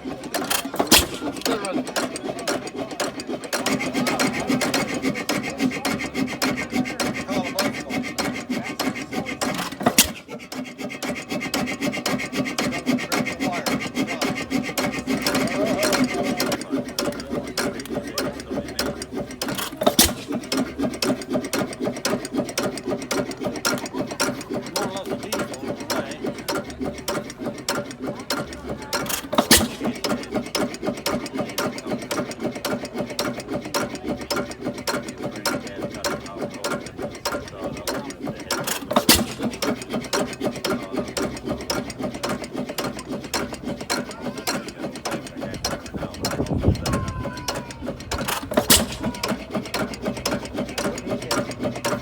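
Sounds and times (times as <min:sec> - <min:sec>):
stationary engine clattering: 0:00.0 - 0:52.0.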